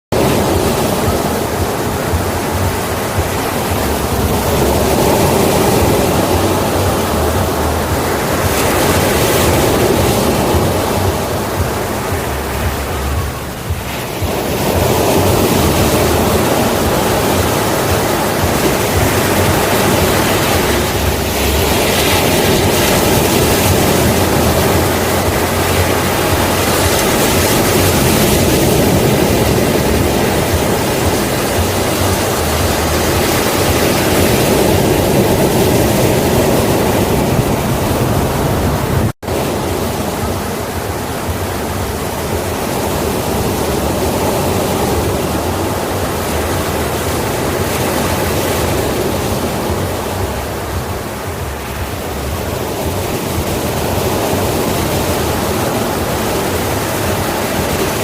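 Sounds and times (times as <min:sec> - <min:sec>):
sea waves breaking ashore: 0:00.1 - 0:58.0.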